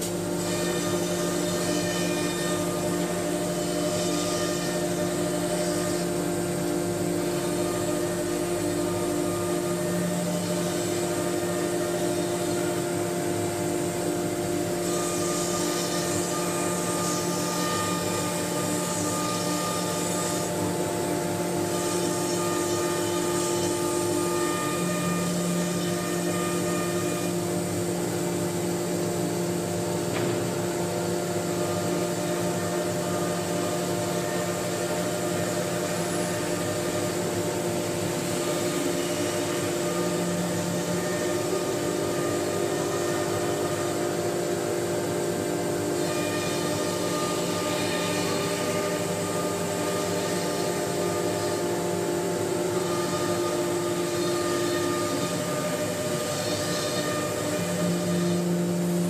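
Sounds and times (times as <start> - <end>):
router spindle whine: 0.0 - 59.0.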